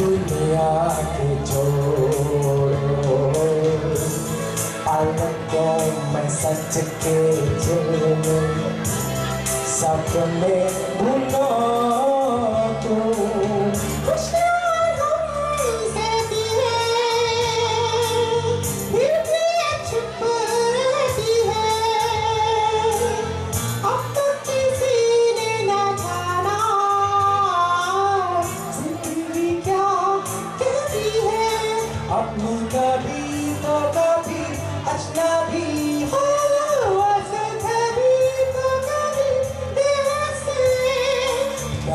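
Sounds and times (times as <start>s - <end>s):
backing music with steady beat: 0.0s - 41.9s
man singing into a microphone: 0.0s - 41.9s.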